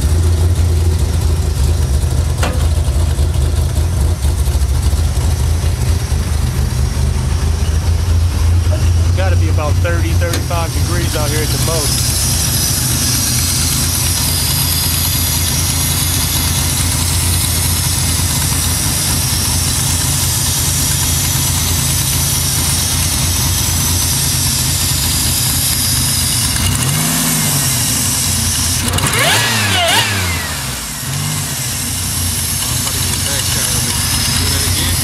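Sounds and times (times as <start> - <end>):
car engine idling with lope: 0.0 - 35.0
engine revving: 0.0 - 35.0.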